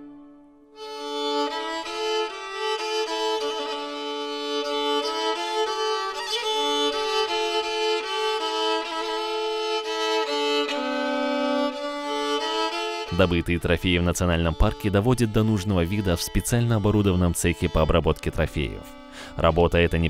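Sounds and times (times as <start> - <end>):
violin melody: 0.0 - 20.0.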